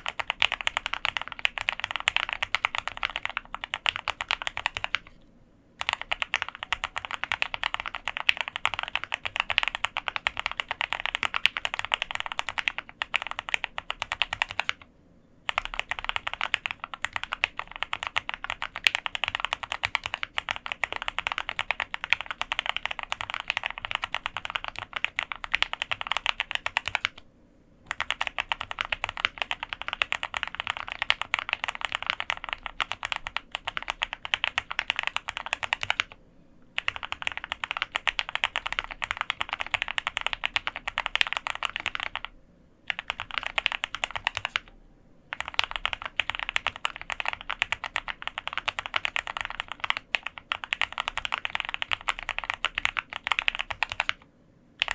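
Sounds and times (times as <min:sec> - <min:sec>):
mechanical keyboard typing: 0:00.0 - 0:05.2, 0:05.8 - 0:14.9, 0:15.5 - 0:27.2, 0:27.9 - 0:36.2, 0:36.8 - 0:54.9.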